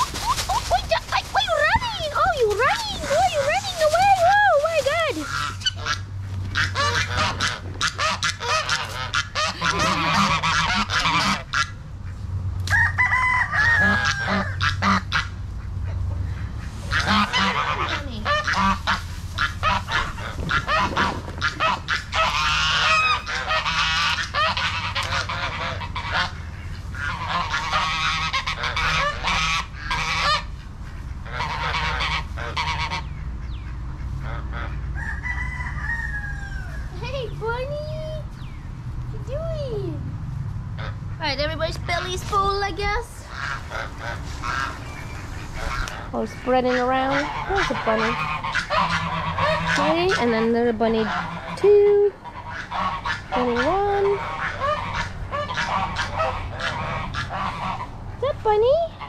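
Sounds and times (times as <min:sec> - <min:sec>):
geese honking: 0:00.0 - 0:38.1, 0:40.8 - 0:59.0
ducks: 0:00.0 - 0:38.5, 0:40.8 - 0:59.0
crackles of dry leaves: 0:00.0 - 0:59.0.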